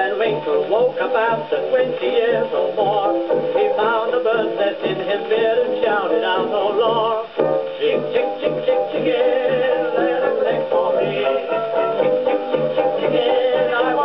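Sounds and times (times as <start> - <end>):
old dance-band music on gramophone: 0.0 - 14.0.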